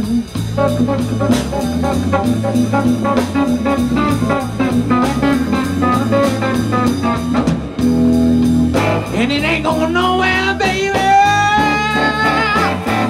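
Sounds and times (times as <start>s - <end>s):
lead instrument fill: 0.0s - 13.0s
live blues band playing: 0.0s - 13.0s.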